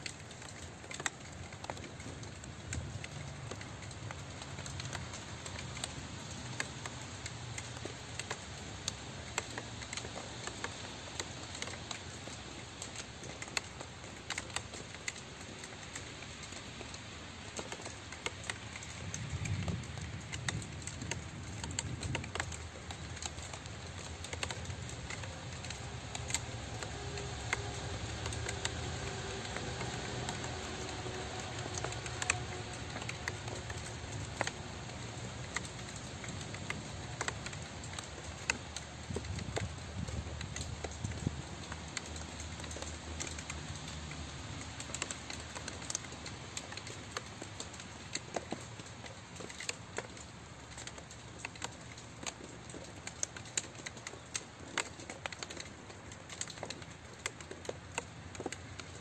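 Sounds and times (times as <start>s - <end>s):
rain drops tapping hard surface: 0.0s - 59.0s.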